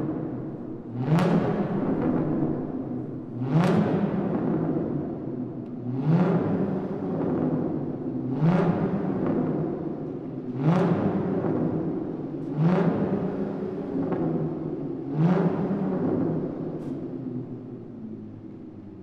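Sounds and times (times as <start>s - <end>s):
car engine revving with echo: 0.0s - 19.0s.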